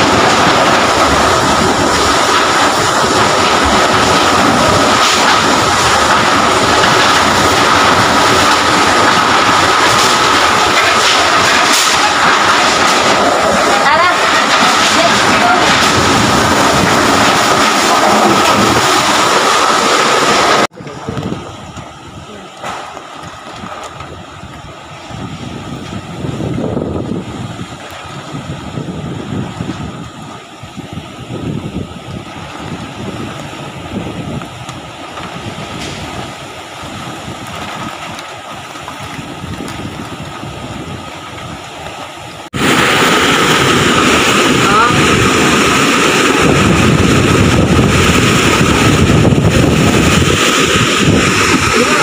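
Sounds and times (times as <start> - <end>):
rain: 0.0 - 52.0
surf breaking over seawall: 0.0 - 52.0
wind blasting microphone: 0.0 - 52.0.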